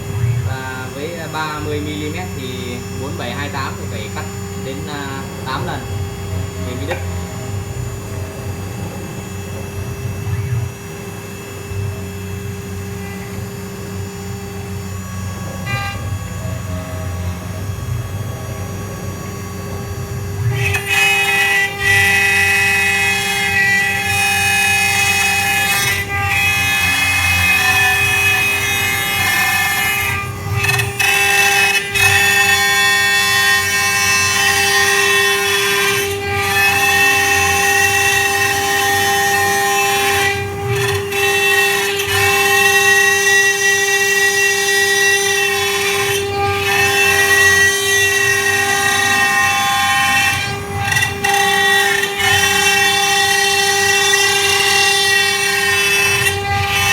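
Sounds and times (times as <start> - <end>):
router spindle whining: 0.0 - 56.9.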